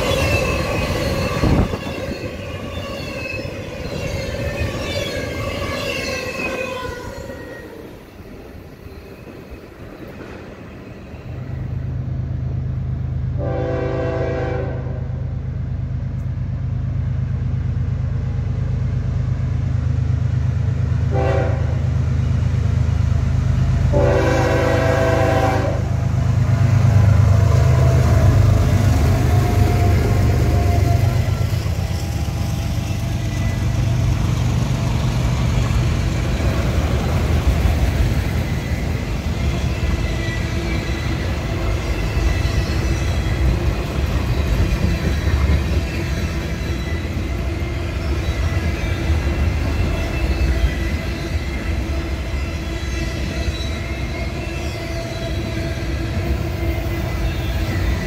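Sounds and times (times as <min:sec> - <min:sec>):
diesel locomotive engine drone: 0:00.0 - 0:58.0
train cars rumbling over rails: 0:00.0 - 0:58.0.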